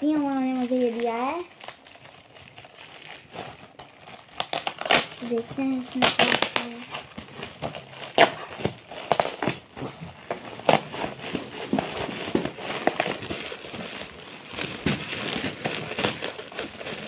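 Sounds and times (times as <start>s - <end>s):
foil gift wrap crinkling: 0.0s - 17.0s.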